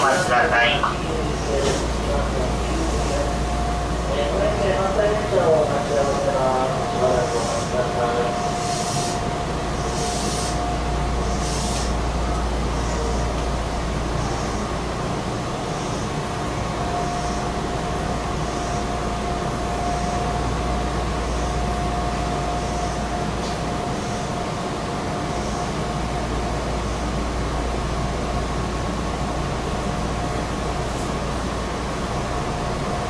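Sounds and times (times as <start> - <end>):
electric train interior noise: 0.0 - 33.0
thin steady whine: 0.0 - 33.0.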